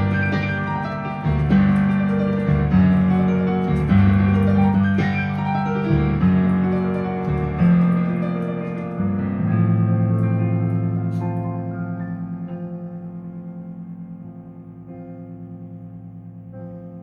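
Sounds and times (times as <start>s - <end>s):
slow piano piece: 0.0s - 17.0s.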